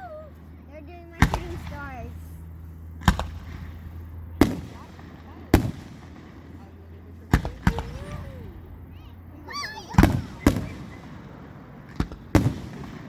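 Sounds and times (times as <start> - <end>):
fireworks bangs echoing: 1.1 - 2.2, 3.0 - 8.9, 9.5 - 13.0.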